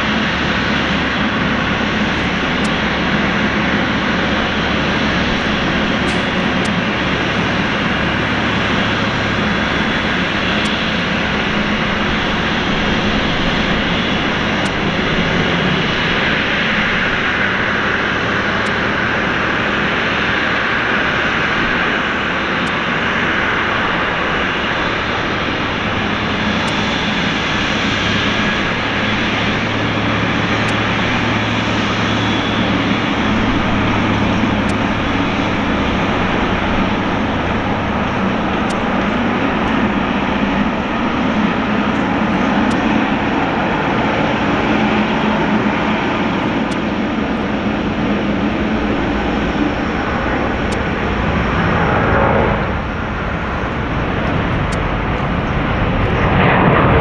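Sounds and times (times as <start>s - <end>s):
jet engines at taxi power: 0.0s - 57.0s.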